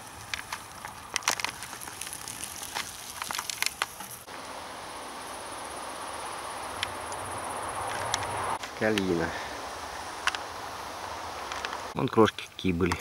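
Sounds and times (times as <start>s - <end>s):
twigs and leaves crackling: 0.0s - 12.0s
insects chirring: 0.0s - 13.0s.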